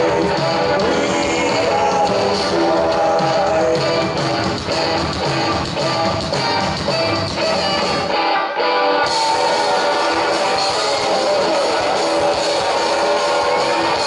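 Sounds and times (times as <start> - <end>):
electric guitars: 0.0 - 14.0
live rock band playing: 0.0 - 14.0.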